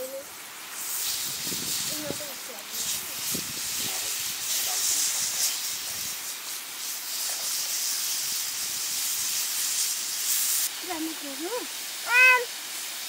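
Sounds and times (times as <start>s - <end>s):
meat sizzling on hot stone: 0.0s - 13.0s.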